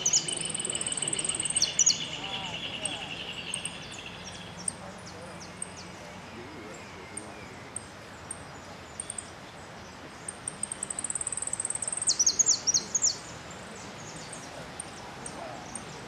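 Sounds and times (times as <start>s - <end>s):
finch singing: 0.0s - 16.0s.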